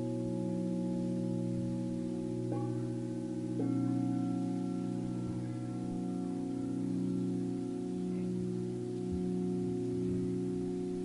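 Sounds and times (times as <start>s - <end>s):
singing bowls ringing: 0.0s - 11.0s.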